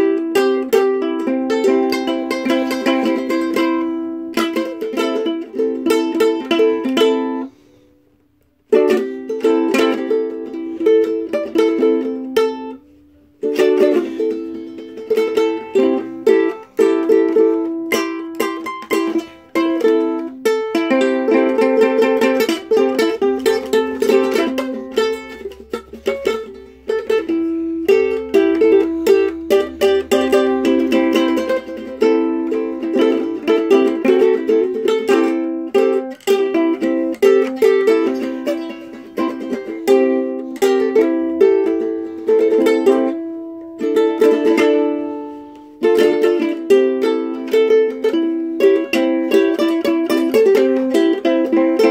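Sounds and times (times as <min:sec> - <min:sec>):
ukulele playing: 0:00.0 - 0:51.9.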